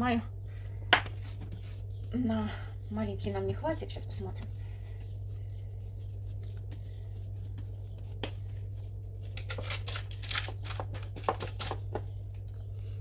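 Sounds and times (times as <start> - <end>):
steady low hum: 0.0 - 13.0
baking paper rustling: 1.1 - 12.0.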